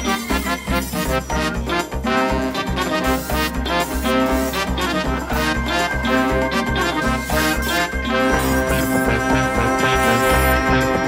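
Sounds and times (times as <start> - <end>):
background music with bass beat: 0.0 - 11.0.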